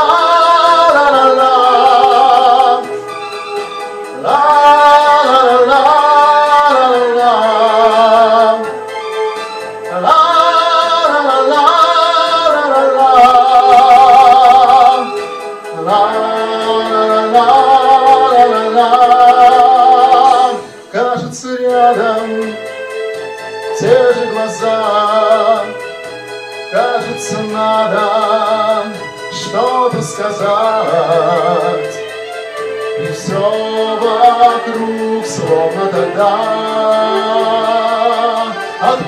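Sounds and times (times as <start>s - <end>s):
man singing into microphone: 0.0s - 8.9s, 9.8s - 23.0s, 23.6s - 25.9s, 26.7s - 39.0s
karaoke backing track: 0.0s - 39.0s.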